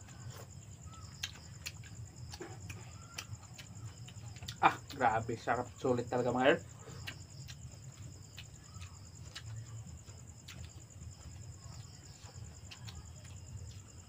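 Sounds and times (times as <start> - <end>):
crickets trilling: 0.0 - 14.0
people eating: 0.0 - 14.0.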